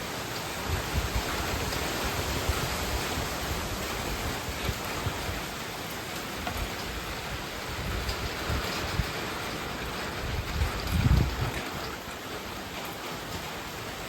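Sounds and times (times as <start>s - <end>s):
heavy rain: 0.0s - 14.0s
wind: 0.0s - 14.0s
wind buffeting microphone: 0.5s - 14.0s.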